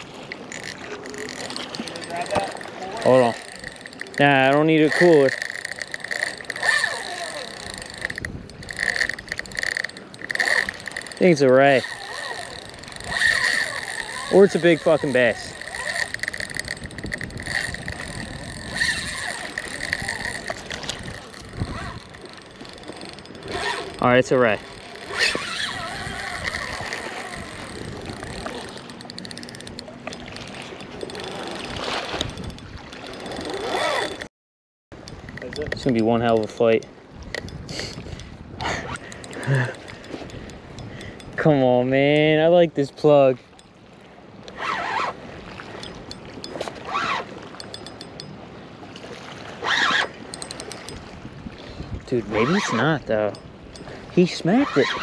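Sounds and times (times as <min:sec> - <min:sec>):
fishing reel clicking: 0:00.3 - 0:34.3, 0:35.0 - 0:41.4, 0:44.5 - 0:48.4, 0:49.6 - 0:51.0, 0:52.2 - 0:55.0.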